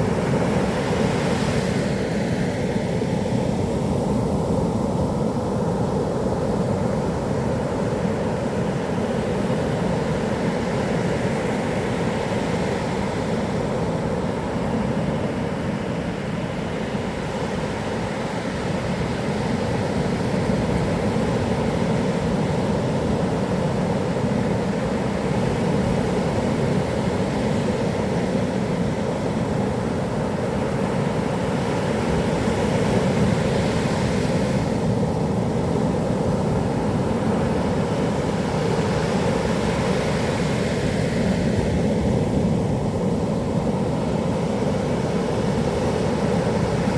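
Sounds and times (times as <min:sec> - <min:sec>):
surf washing on a beach: 0:00.0 - 0:46.9.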